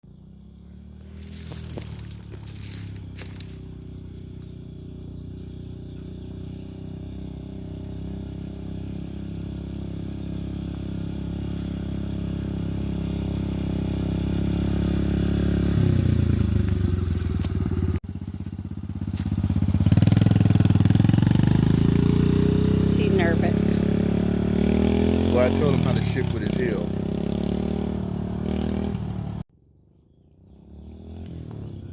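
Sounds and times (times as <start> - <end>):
dirt bike engine revving: 0.1 - 18.0, 18.6 - 29.4, 30.5 - 31.9.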